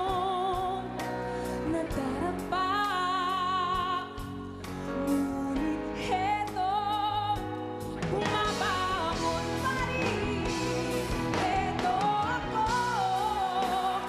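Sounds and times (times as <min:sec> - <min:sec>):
instrumental backing music: 0:00.0 - 0:14.0
woman singing a ballad: 0:00.0 - 0:14.0.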